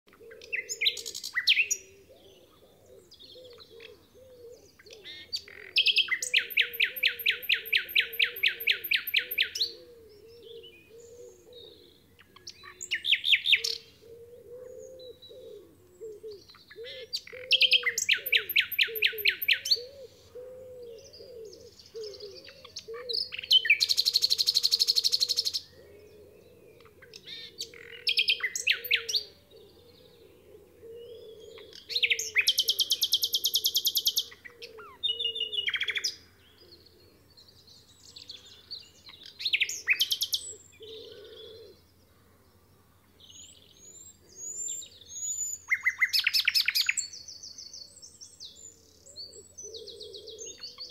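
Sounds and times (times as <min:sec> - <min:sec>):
nightingale singing: 0:00.1 - 0:50.9.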